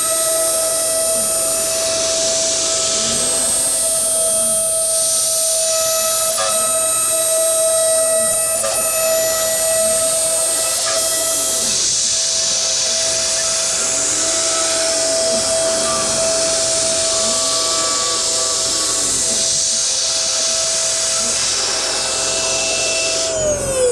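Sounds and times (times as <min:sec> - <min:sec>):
axis motors whining: 0:00.0 - 0:23.9.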